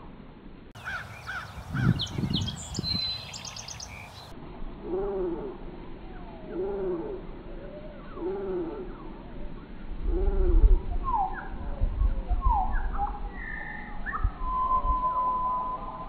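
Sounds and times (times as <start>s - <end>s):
slowed bird song: 0.8s - 16.0s
low rumble: 1.4s - 16.0s.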